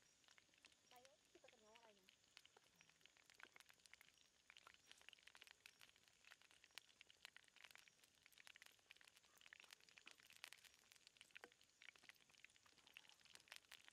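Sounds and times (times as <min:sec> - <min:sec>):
hot oil crackling and popping: 0:00.0 - 0:13.9.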